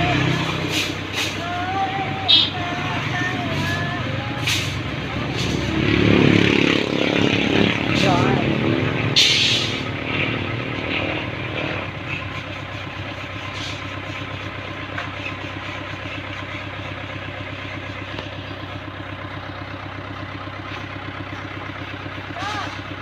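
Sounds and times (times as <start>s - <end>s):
small engine idling: 0.0s - 23.0s.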